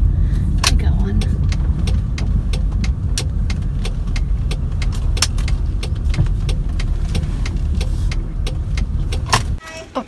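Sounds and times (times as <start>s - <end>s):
regular ticking: 0.0s - 9.6s
car engine and road rumble: 0.0s - 10.0s.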